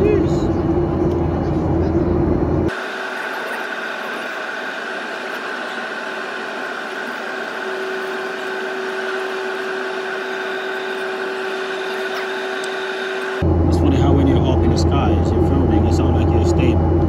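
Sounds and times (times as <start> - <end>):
airliner cabin rush and hum: 0.0 - 17.0
steady tone: 0.4 - 17.0.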